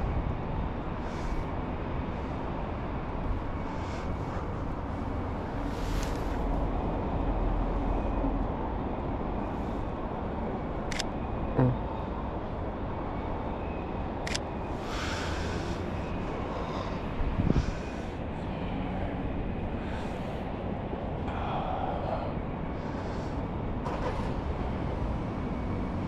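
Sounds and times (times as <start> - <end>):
street traffic hum: 0.0 - 26.0.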